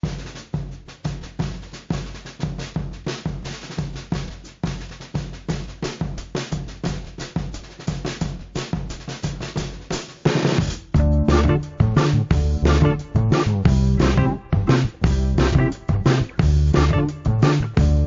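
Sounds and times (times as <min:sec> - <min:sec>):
background music with drum beat: 0:00.0 - 0:18.0.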